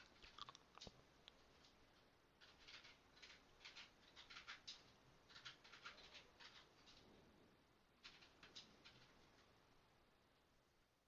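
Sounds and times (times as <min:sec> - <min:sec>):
faint soft clicks and rustles: 0:00.0 - 0:10.6.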